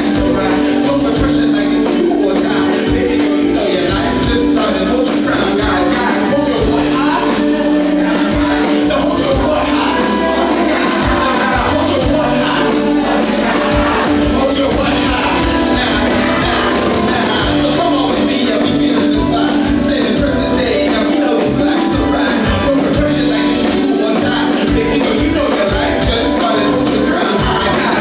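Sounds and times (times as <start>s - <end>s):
loud live band with drums: 0.0s - 28.0s.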